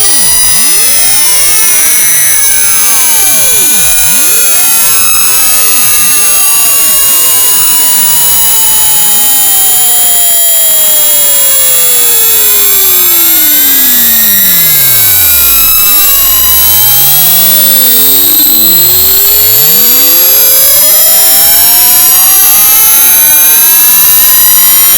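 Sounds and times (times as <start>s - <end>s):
electronic pitch glides: 0.0s - 24.9s
piercing high whistles: 0.0s - 24.9s.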